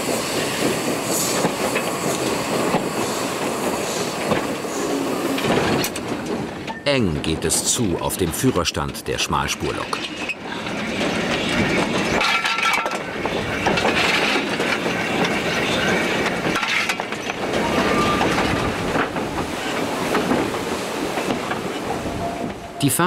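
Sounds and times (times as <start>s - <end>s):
steam train clattering rumble: 0.0s - 22.8s.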